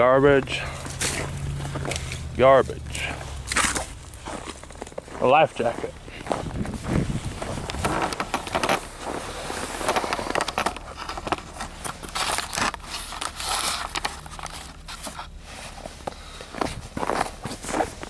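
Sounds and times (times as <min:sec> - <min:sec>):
garbage crinkling and scraping: 0:00.0 - 0:18.0.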